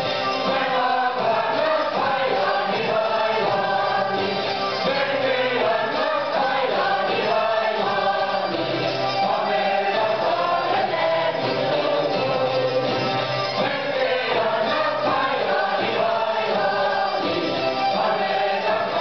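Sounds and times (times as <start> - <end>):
voices singing along: 0.0 - 19.0.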